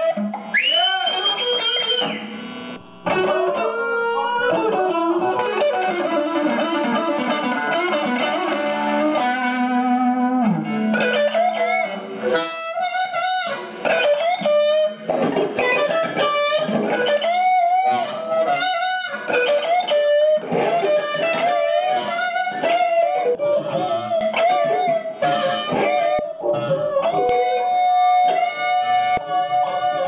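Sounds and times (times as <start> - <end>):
electric blues guitar solo: 0.0 - 30.0.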